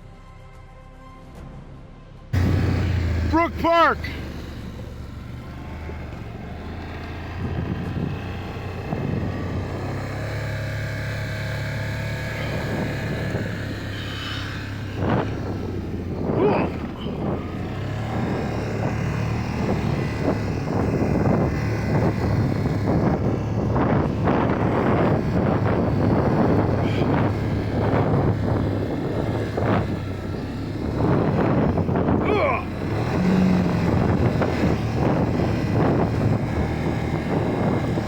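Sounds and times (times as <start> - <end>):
engine running: 2.3 - 38.0.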